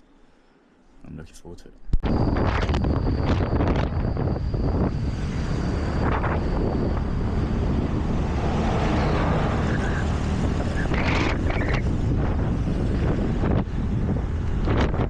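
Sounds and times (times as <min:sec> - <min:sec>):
wind buffeting microphone: 0:02.0 - 0:15.0.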